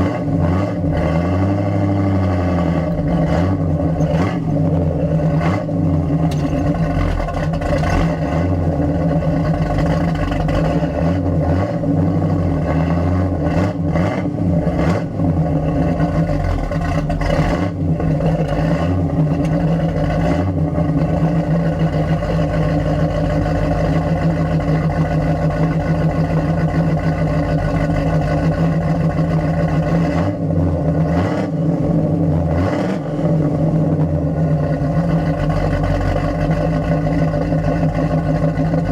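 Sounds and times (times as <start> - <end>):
car exhaust drone: 0.0 - 38.9.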